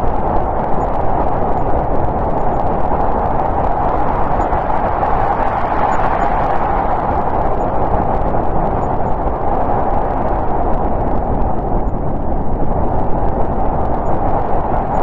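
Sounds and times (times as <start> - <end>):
snowstorm wind blowing: 0.0 - 15.0.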